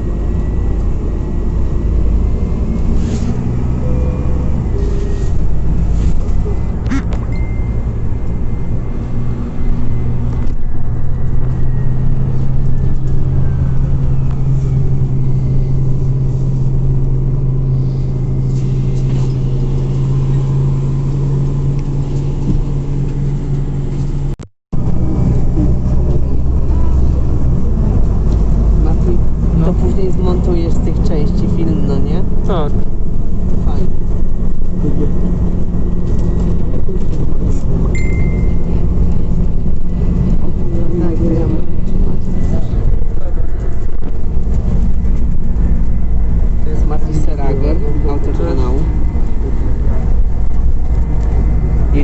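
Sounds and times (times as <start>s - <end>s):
bus engine and road drone: 0.0s - 52.0s
rattles inside bus: 0.0s - 52.0s.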